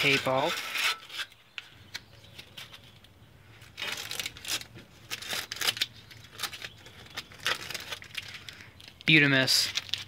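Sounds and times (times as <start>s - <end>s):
masking tape ripping off metal: 0.0s - 2.7s, 3.6s - 10.0s.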